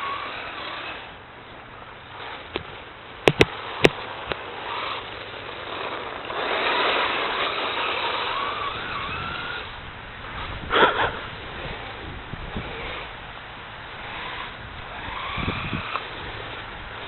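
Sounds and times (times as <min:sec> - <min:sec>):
remote control car motor whine: 0:00.0 - 0:01.2, 0:02.1 - 0:13.2, 0:13.8 - 0:17.0.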